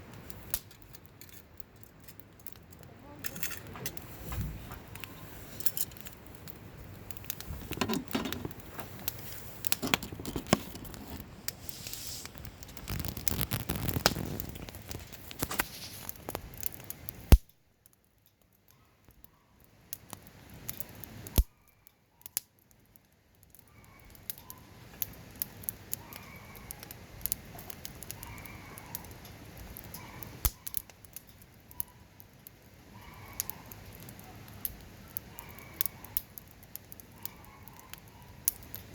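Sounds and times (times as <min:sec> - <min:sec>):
sharp fire pops: 0:00.0 - 0:18.0, 0:19.9 - 0:21.6, 0:24.2 - 0:31.9, 0:33.4 - 0:38.9
campfire crackling: 0:00.0 - 0:38.9.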